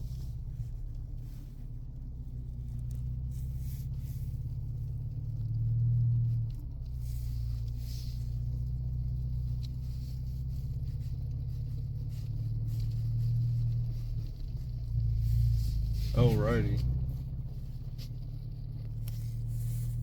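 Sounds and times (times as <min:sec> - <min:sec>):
car engine and tyres drone: 0:00.0 - 0:20.0.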